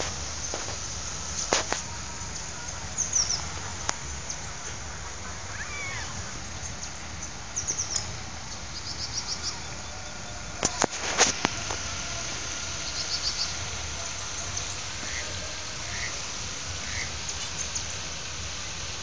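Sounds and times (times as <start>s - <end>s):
small birds chirping: 0.0s - 10.9s, 11.5s - 16.2s, 16.8s - 18.1s
outdoor background hiss and rumble: 0.0s - 19.0s.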